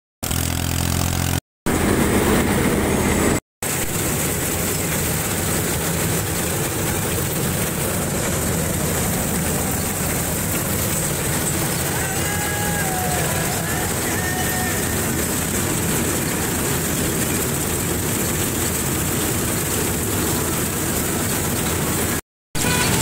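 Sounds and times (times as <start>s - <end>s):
combine harvester machinery noise: 0.2s - 23.0s
tractor diesel engine running: 0.2s - 23.0s.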